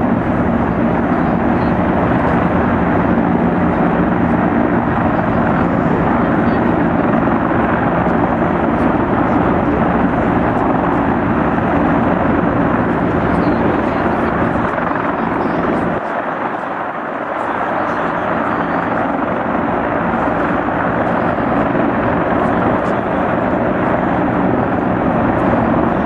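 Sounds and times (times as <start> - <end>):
helicopter rotors: 0.0 - 26.0.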